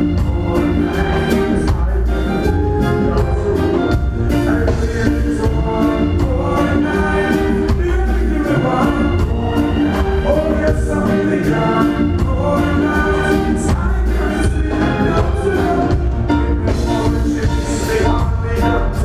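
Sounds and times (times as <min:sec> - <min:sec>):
lead vocal singing: 0:00.0 - 0:19.0
live reggae band playing: 0:00.0 - 0:19.0.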